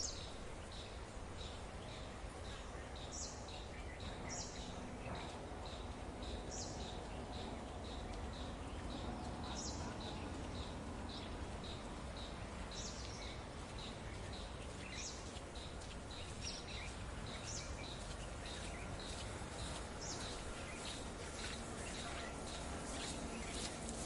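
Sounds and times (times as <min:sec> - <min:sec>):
steady background noise: 0:00.0 - 0:24.0
sweeping bird calls: 0:00.0 - 0:24.0.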